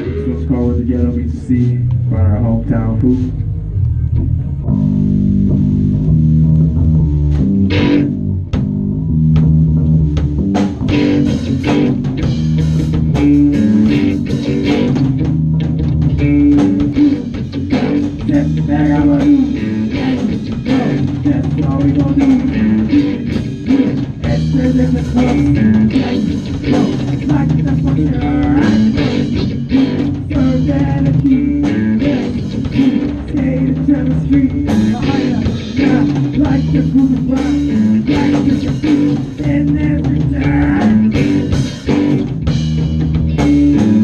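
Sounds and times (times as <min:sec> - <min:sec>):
drum kit: 0:00.0 - 0:44.0
electric bass: 0:00.0 - 0:44.0
electric guitar: 0:00.0 - 0:44.0.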